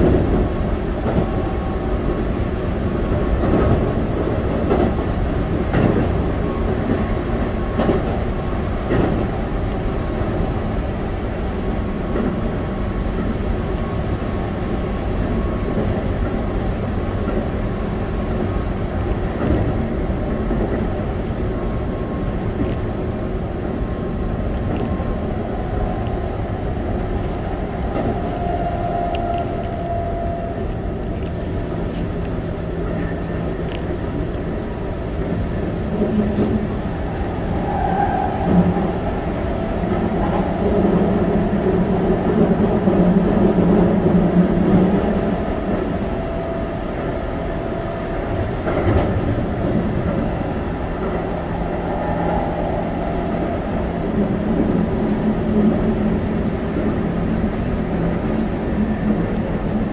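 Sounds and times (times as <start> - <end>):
train wheels rumbling on rails: 0.0 - 59.9
train whine: 0.0 - 59.9.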